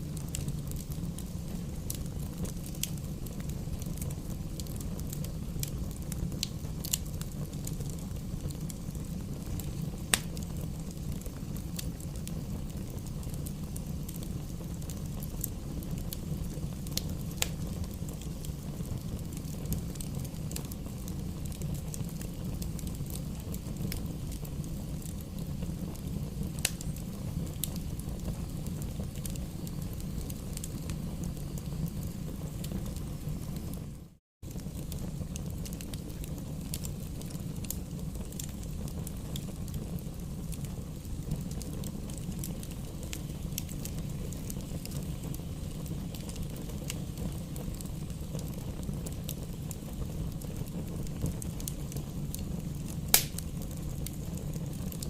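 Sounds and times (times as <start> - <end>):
campfire burning with low rumble: 0.0 - 55.0
fire crackles and pops: 0.0 - 55.0.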